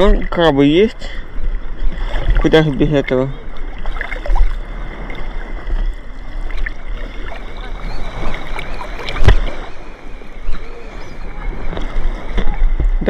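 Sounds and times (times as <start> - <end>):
sea water sloshing and splashing: 0.0 - 13.0.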